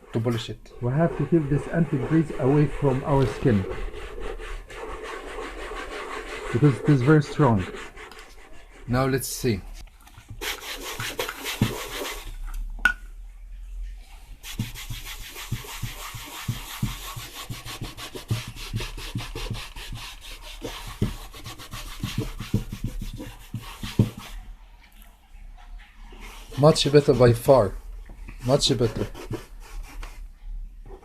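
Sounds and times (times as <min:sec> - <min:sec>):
rapid scrubbing strokes: 0:00.0 - 0:09.8, 0:10.4 - 0:12.4, 0:14.4 - 0:24.4, 0:25.6 - 0:27.8, 0:28.4 - 0:30.2.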